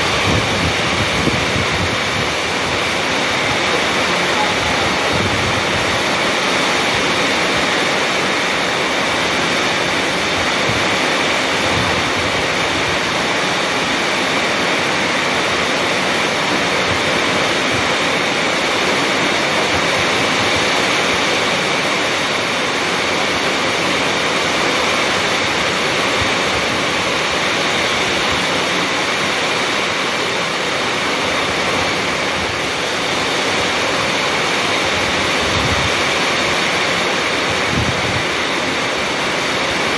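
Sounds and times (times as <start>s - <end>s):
heavy rain on concrete: 0.0s - 39.9s.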